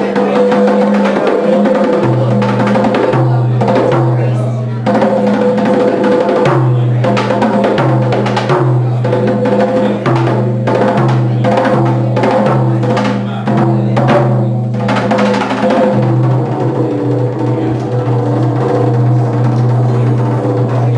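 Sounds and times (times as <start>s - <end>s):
fast drum strikes: 0.0s - 20.9s.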